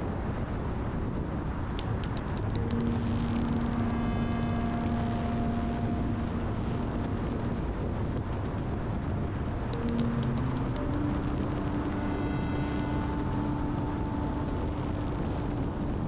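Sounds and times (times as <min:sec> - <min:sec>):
car wind and tyre noise: 0:00.0 - 0:16.0
low hum: 0:01.7 - 0:16.0.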